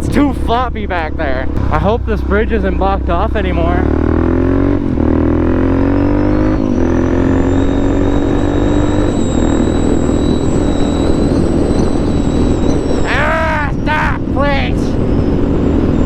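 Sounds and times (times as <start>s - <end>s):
low wind rumble: 0.0s - 16.0s
motorcycle engine accelerating: 0.0s - 16.0s.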